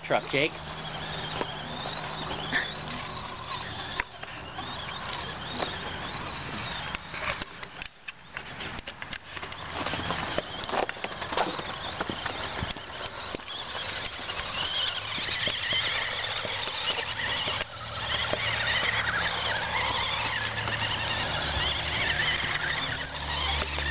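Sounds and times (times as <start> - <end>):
toy truck electric motor whining: 0.0 - 23.9.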